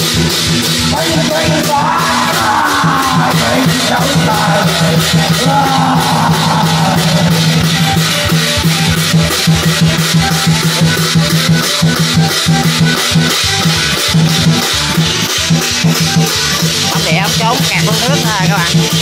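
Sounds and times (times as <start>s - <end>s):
drum kit fast beat: 0.0s - 19.0s
live band music: 0.0s - 19.0s.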